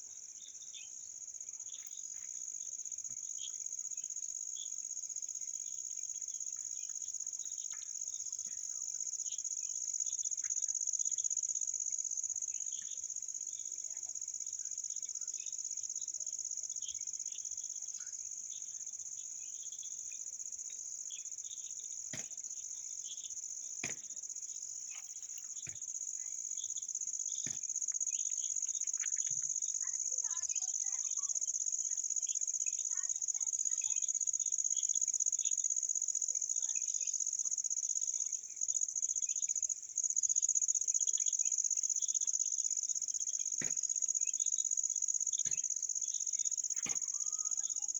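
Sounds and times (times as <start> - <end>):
insect chorus drone: 0.0 - 47.9.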